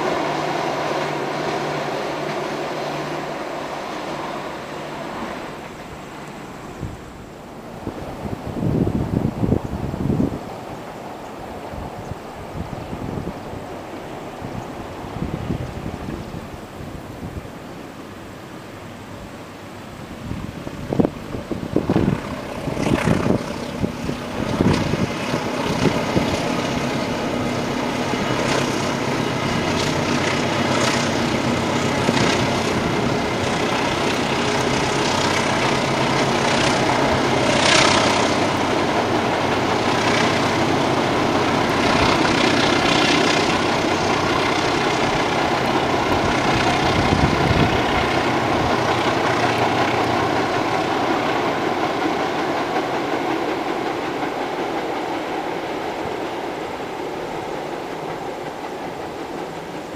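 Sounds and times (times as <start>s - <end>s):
train rumbling over bridge: 0.0s - 59.9s
wind gusts on microphone: 0.0s - 59.9s.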